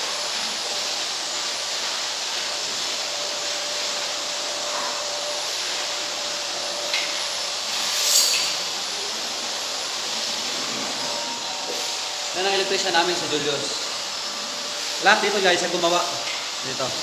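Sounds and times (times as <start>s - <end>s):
room noise hiss with hum: 0.0s - 17.0s.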